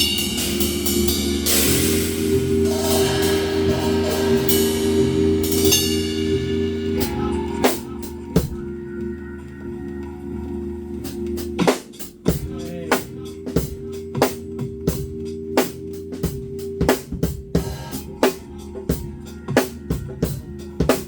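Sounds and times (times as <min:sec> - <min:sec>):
drum kit with cymbal crashes: 0:00.0 - 0:08.7, 0:11.1 - 0:21.0
repeating bass line: 0:00.0 - 0:21.0
sustained low chords: 0:00.0 - 0:21.0.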